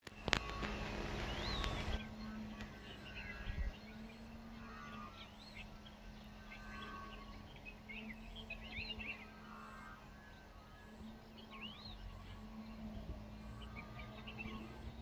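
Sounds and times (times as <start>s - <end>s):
songbirds chirping: 0.0s - 15.0s
steady low hum: 0.0s - 15.0s.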